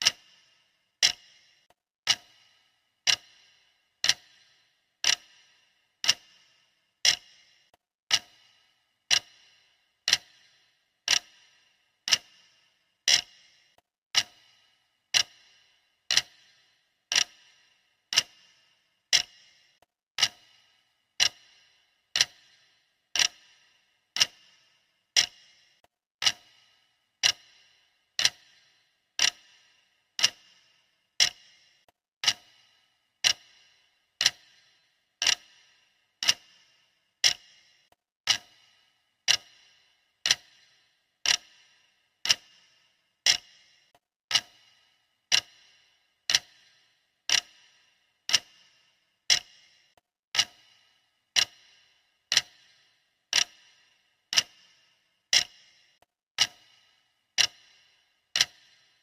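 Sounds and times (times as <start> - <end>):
timer ticking with high ring: 0.0 - 59.0.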